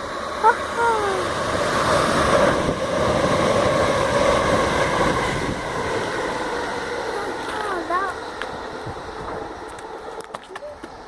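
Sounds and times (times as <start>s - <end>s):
approaching train: 0.0s - 11.0s.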